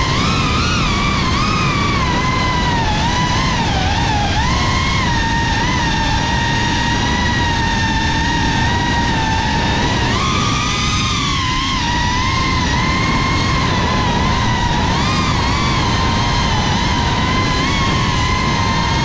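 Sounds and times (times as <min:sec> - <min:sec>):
drone motors whining: 0:00.0 - 0:19.0
rushing noise: 0:00.0 - 0:19.0.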